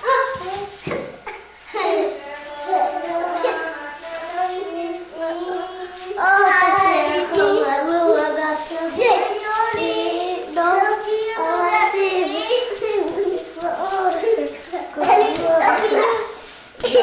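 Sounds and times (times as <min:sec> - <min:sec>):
young children singing: 0:00.0 - 0:17.0.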